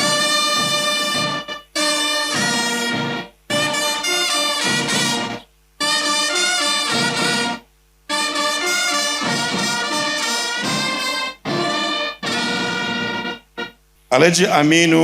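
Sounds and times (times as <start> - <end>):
brass band music: 0.0 - 14.6.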